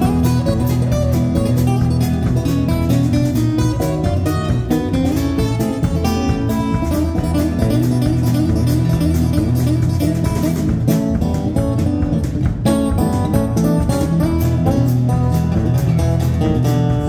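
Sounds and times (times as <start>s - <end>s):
acoustic guitars picking: 0.0s - 17.0s
drums: 0.0s - 17.0s
upright bass: 0.0s - 17.0s.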